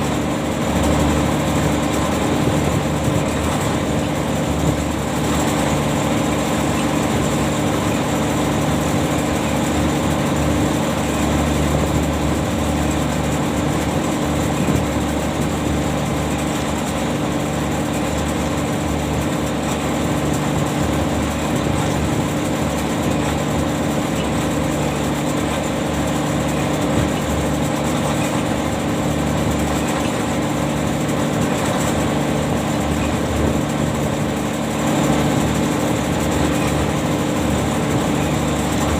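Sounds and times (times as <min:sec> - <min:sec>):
ship machinery humming: 0:00.0 - 0:38.9.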